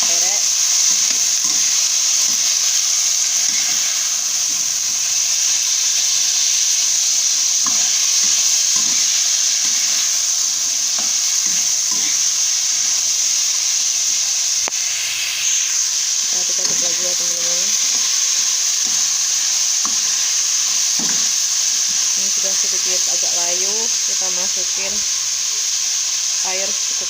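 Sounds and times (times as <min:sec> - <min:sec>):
spatula scraping a pan: 0:00.0 - 0:13.7, 0:14.8 - 0:25.1
food sizzling in a pan: 0:00.0 - 0:27.0.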